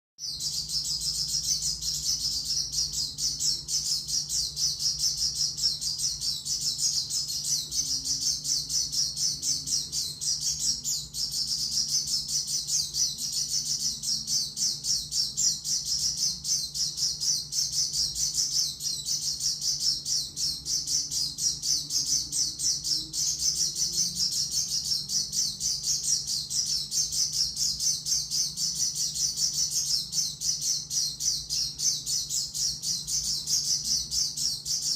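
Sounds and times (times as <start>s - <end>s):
bird twittering chirps: 0.2s - 34.9s
faint low hum: 0.2s - 34.9s.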